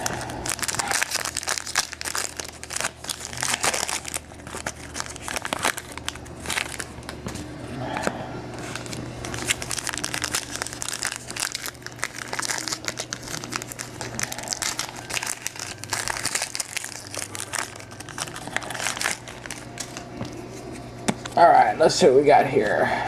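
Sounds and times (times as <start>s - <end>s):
foil wrappers crinkling: 0.0s - 21.4s.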